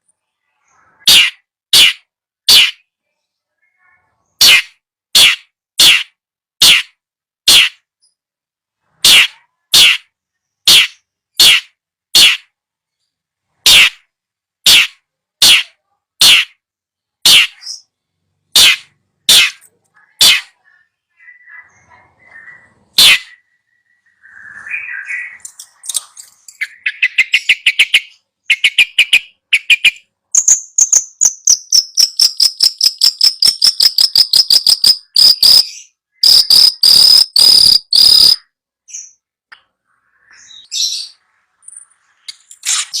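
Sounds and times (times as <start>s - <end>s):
songbird chirps and trills: 0.0s - 6.8s, 7.5s - 43.0s
loud harsh bird calls: 0.4s - 3.0s, 3.7s - 7.9s, 8.8s - 12.6s, 13.5s - 16.6s, 17.2s - 38.6s.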